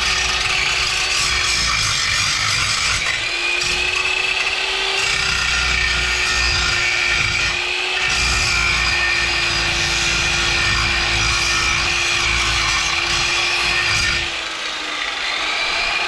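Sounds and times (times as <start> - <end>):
electric power saw cutting: 0.0 - 16.0.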